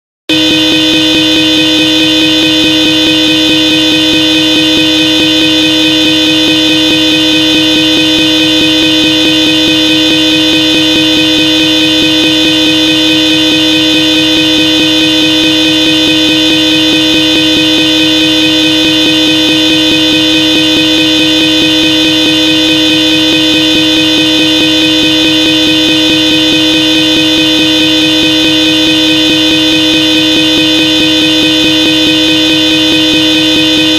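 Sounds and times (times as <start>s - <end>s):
two-note car horn blast: 0.3s - 33.9s.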